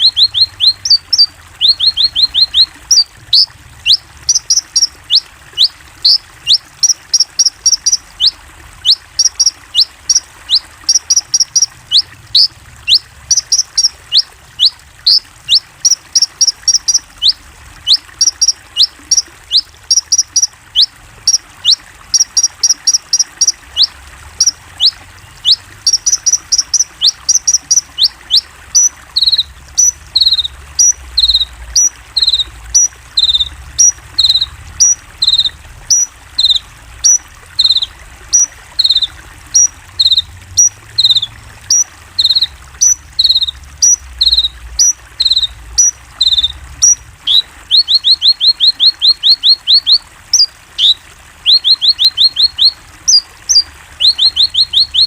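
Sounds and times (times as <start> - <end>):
high chirping trills: 0.0 - 55.0
songbird whistling song: 0.0 - 55.0.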